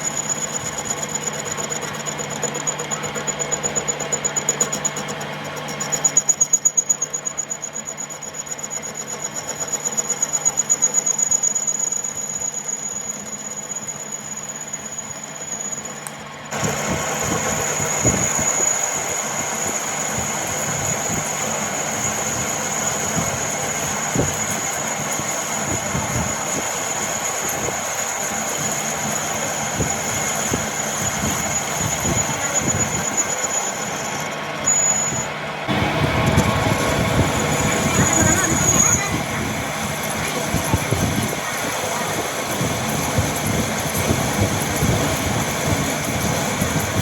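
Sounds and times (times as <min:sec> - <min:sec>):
rough machining noise: 0:00.0 - 0:47.0
workshop machinery hum and whine: 0:00.0 - 0:47.0.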